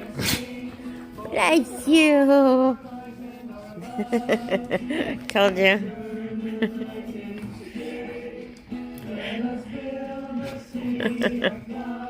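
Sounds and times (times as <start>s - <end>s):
music with slow singing: 0.0s - 12.0s.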